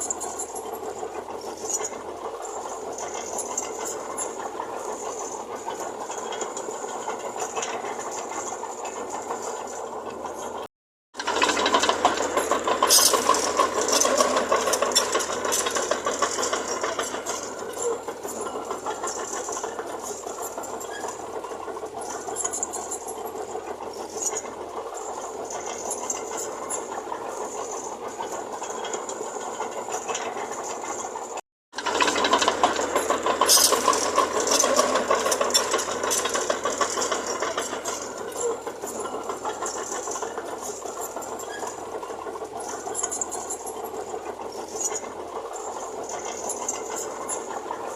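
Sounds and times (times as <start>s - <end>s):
metallic rattle and clatter: 0.0s - 47.9s.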